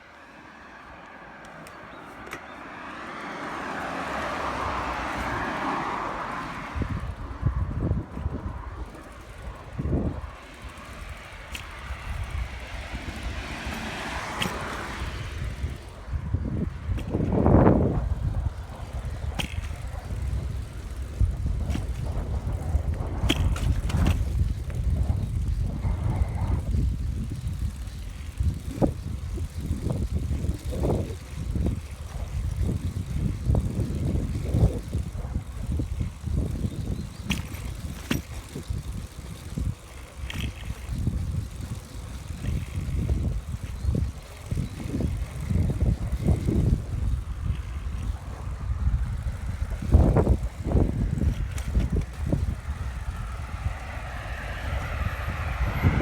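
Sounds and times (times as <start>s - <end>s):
bicycle road rumble: 0.0s - 56.0s
wind on microphone: 4.0s - 56.0s.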